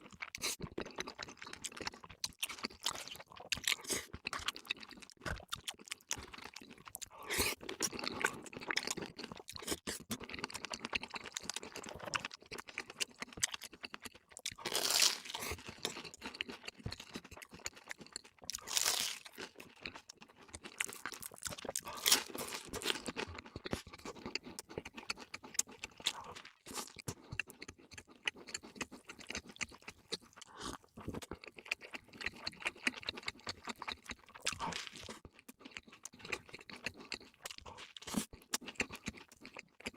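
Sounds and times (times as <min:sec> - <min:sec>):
chewing and smacking: 0:00.0 - 0:39.9.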